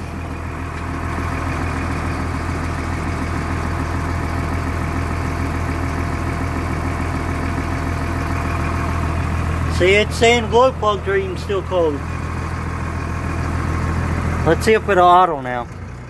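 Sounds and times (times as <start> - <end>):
diesel bus engine idling: 0.0 - 16.0.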